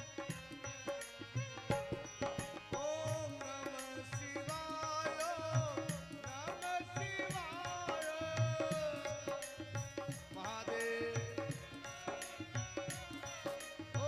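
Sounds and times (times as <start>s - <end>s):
harmonium melody: 0.0s - 14.0s
tabla beat: 0.0s - 14.0s
wordless singing: 0.0s - 14.0s.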